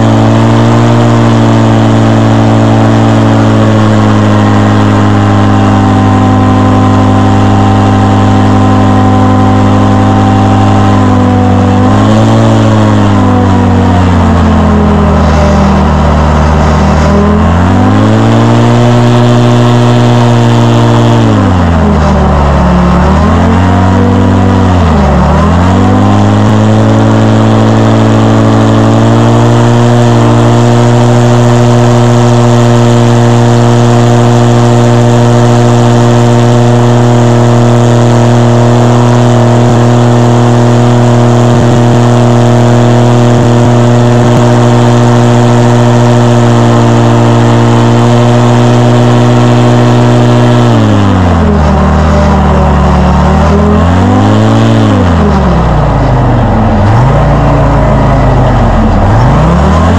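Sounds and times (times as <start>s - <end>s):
airboat engine revving: 0.0s - 59.9s
airboat propeller: 0.0s - 59.9s.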